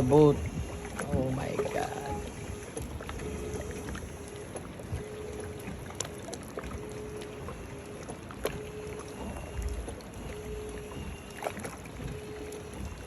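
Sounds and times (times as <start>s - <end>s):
boat rumble and water: 0.0s - 13.0s
faint hum: 0.0s - 13.0s.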